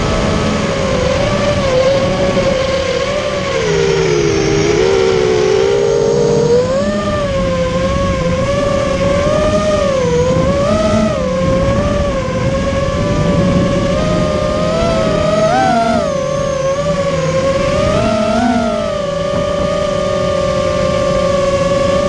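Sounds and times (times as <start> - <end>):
quadcopter buzzing whine: 0.0 - 22.0.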